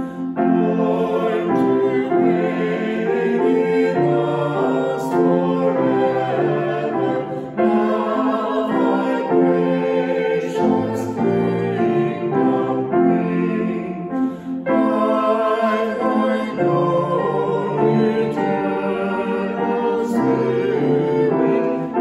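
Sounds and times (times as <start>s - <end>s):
grand piano: 0.0s - 22.0s.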